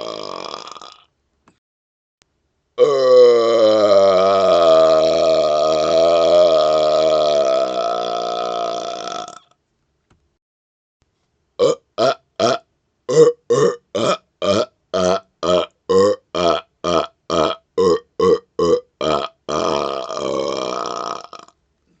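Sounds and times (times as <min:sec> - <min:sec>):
man belching: 0:00.0 - 0:01.0, 0:02.8 - 0:09.5, 0:11.6 - 0:21.5.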